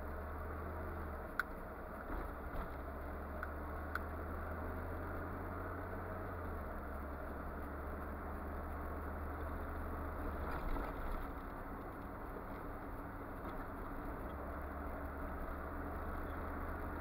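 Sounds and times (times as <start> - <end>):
car engine and road drone: 0.0 - 17.0.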